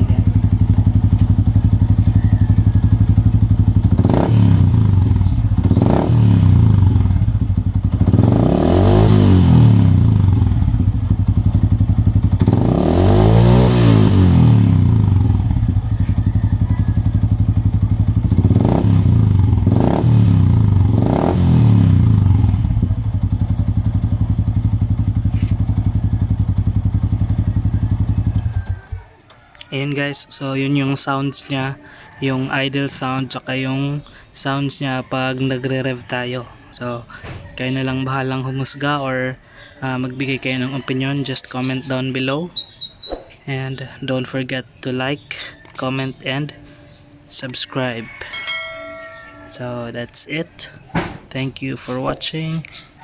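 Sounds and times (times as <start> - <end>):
motorcycle engine idling and revving: 0.0 - 42.8, 43.8 - 52.6.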